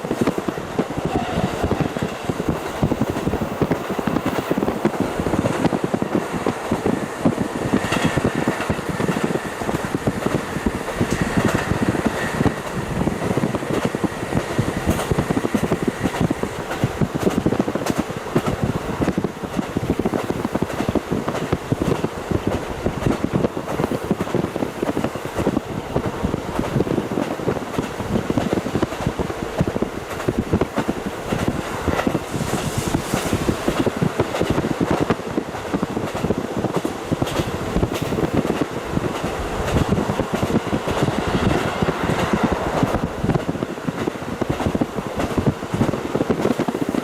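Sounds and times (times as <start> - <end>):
railcar engine and rushing air: 0.0 - 47.0.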